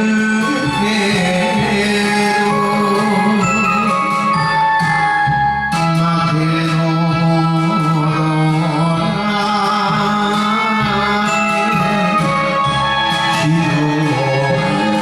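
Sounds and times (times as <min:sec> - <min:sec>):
band backing track: 0:00.0 - 0:15.0
recurring bass line: 0:00.0 - 0:15.0.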